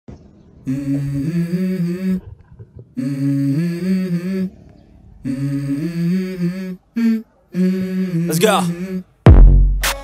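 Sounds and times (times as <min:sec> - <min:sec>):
man humming a melody: 0:00.6 - 0:10.0.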